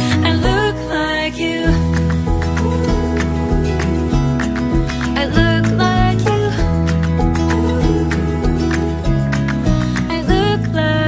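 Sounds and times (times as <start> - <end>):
pop song with sung melody: 0.0 - 11.0.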